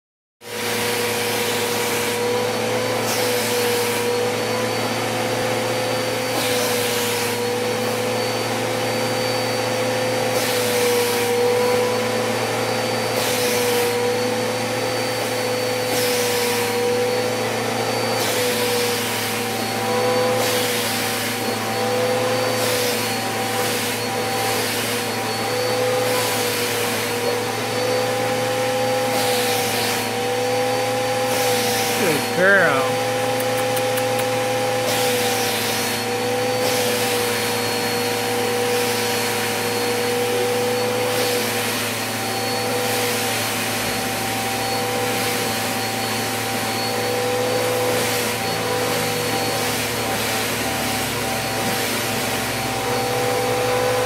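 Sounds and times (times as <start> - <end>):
vacuum cleaner running: 0.4 - 54.0.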